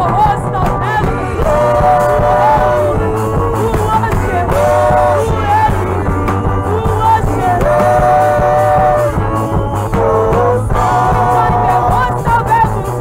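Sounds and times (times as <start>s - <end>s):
band with steady beat and bass: 0.0s - 13.0s
woman singing lead vocal: 0.0s - 13.0s
backing singers holding notes: 1.0s - 13.0s.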